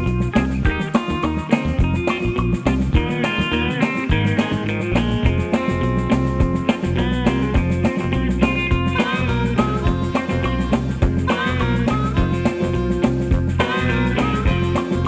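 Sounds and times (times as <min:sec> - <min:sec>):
guitar over beat and bass: 0:00.0 - 0:15.0.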